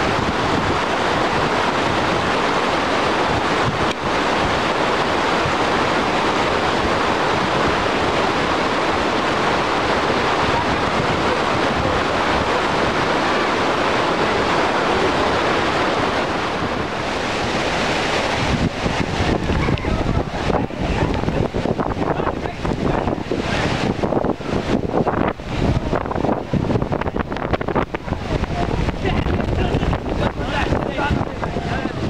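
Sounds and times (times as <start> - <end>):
waterfall rushing: 0.0 - 32.0
wind buffeting microphone: 0.0 - 32.0.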